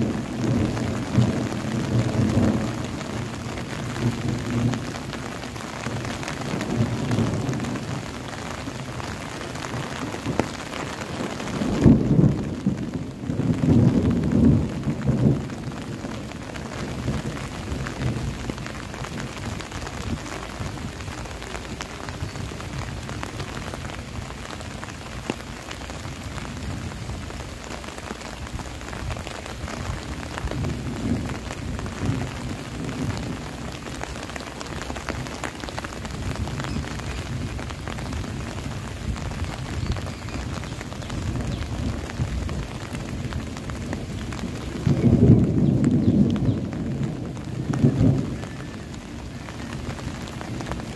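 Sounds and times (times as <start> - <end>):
low thunder rumbles: 0.0 - 50.9
rain on foliage: 0.0 - 50.9.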